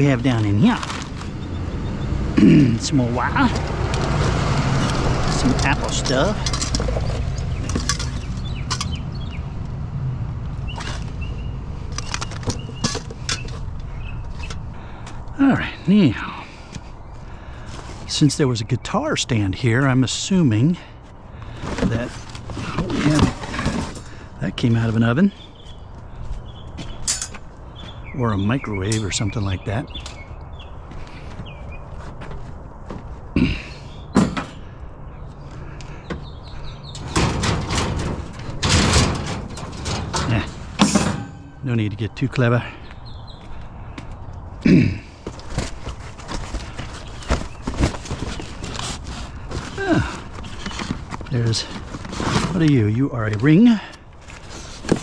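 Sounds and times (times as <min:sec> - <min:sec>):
electronics clattering and rattling: 0:00.0 - 0:09.7, 0:10.4 - 0:16.8, 0:19.6 - 0:34.8, 0:35.6 - 0:55.0.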